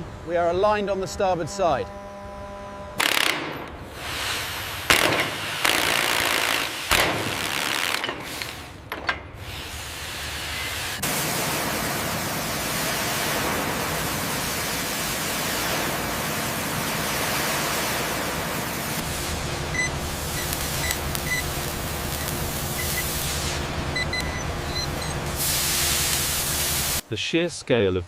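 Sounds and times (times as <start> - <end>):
steady loud hiss: 0.0 - 1.8, 3.0 - 28.0.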